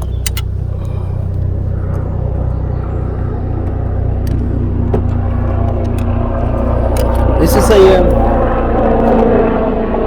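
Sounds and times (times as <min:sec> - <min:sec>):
helicopter rotor rumble: 0:00.0 - 0:10.0.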